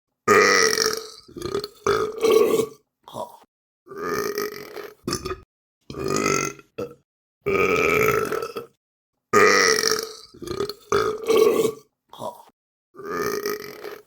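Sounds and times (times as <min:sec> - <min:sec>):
person burping: 0:00.3 - 0:08.8, 0:09.4 - 0:14.0.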